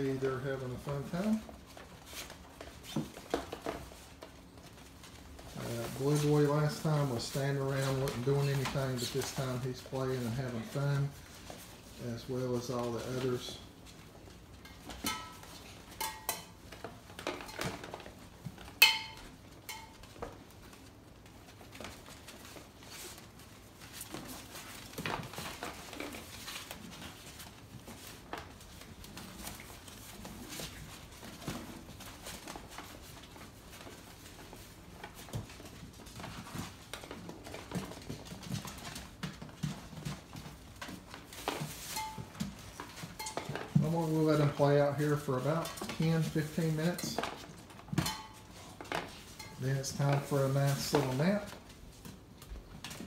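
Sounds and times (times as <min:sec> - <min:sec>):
puppies pattering and rustling: 0:00.0 - 0:53.0.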